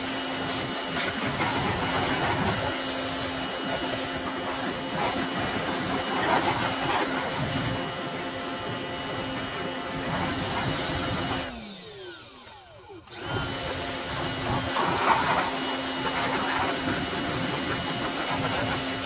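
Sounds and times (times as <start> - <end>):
pressure washer running: 0.0 - 19.0.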